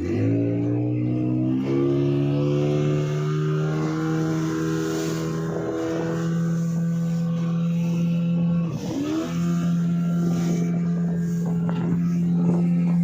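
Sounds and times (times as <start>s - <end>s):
speedboat engine at high revs: 0.0s - 13.0s.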